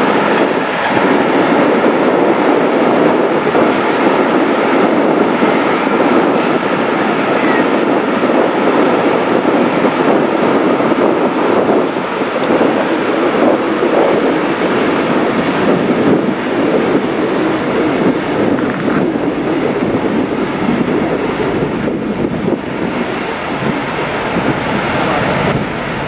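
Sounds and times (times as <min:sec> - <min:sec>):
freight train rumbling on rails: 0:00.0 - 0:26.0.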